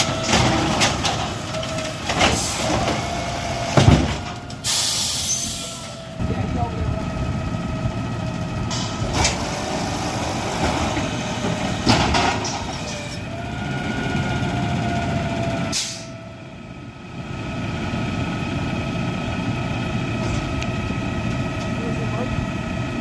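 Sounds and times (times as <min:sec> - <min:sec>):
garbage truck engine running: 0:00.0 - 0:23.0.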